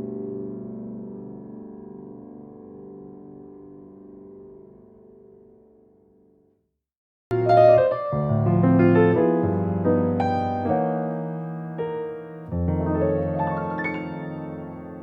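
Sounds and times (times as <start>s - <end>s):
soft piano music: 0.0s - 6.4s, 7.3s - 15.0s.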